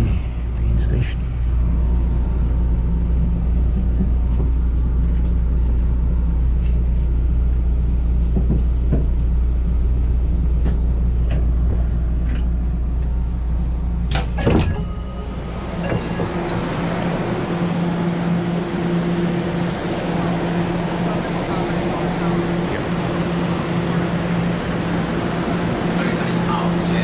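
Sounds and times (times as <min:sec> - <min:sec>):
train rumble inside carriage: 0:00.0 - 0:27.0.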